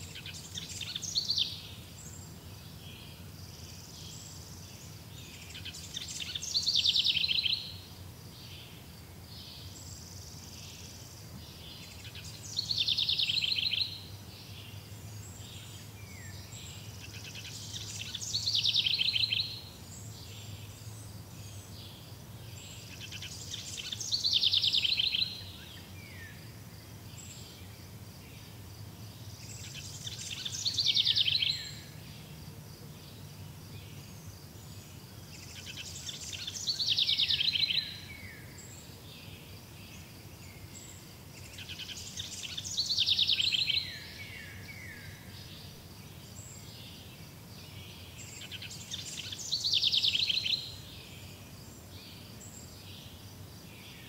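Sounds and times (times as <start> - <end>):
bird singing trill: 0.0 - 32.4, 33.0 - 54.0.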